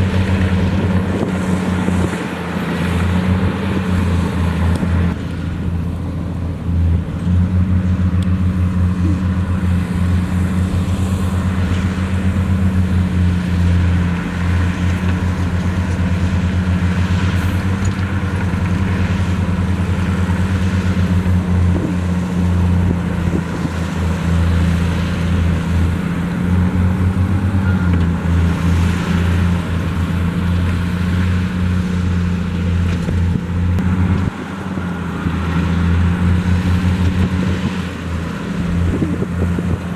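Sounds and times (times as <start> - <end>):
large diesel engine droning: 0.0 - 39.9.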